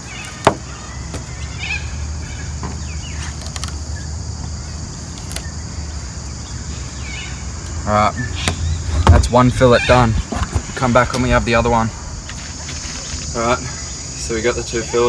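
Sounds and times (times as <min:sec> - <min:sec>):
steady low rumble: 0:00.8 - 0:14.3.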